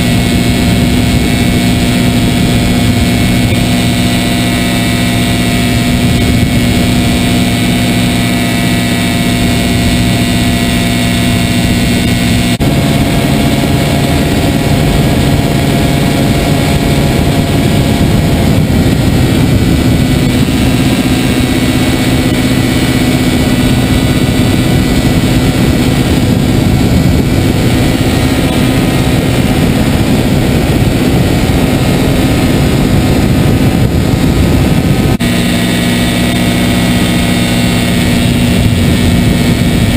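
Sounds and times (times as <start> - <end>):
rushing wind: 0.0 - 39.9
two-stroke engine buzzing: 0.0 - 39.9.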